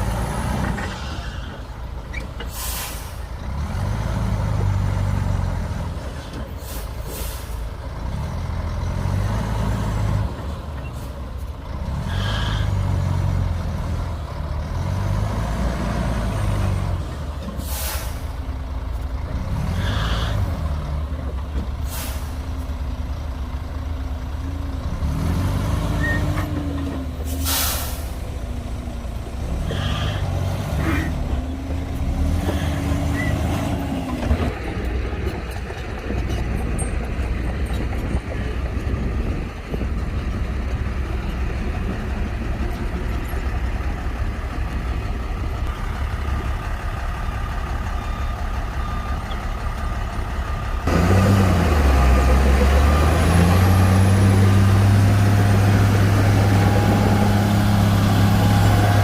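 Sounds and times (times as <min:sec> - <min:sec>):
heavy diesel machinery rumbling: 0:00.0 - 0:59.0.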